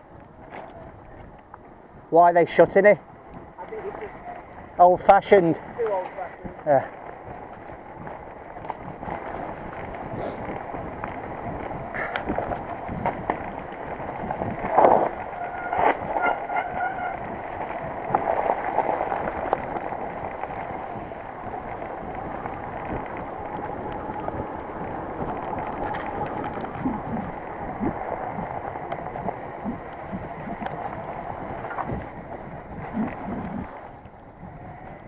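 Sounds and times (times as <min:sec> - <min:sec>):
bike rattling: 0:00.0 - 0:35.0
tyre and wind rush: 0:00.0 - 0:35.0.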